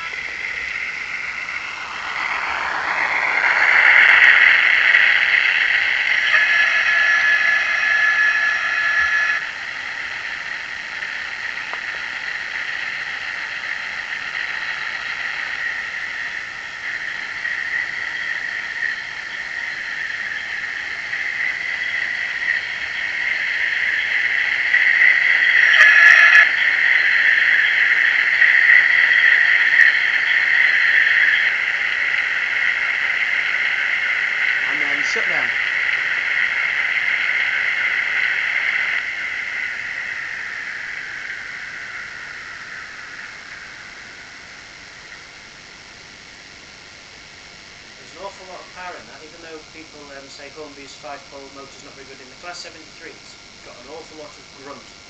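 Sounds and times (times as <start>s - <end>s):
model locomotive diesel engine sound: 0.0s - 47.0s
steady held tone: 0.0s - 55.0s.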